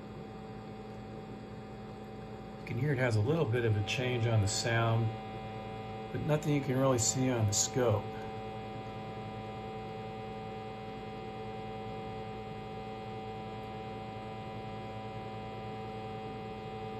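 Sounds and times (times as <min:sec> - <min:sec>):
low sine test tone hum: 0:00.0 - 0:16.9.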